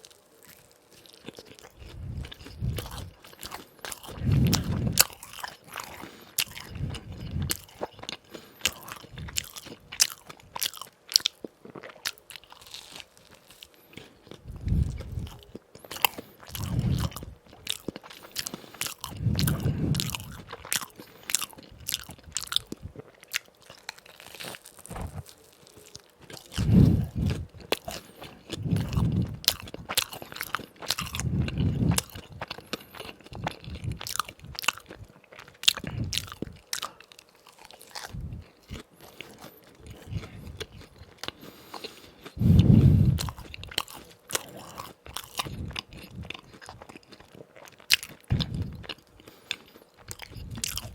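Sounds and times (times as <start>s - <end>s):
crunching fried donuts: 0.0s - 50.9s
muffled chewing thuds: 0.4s - 50.9s.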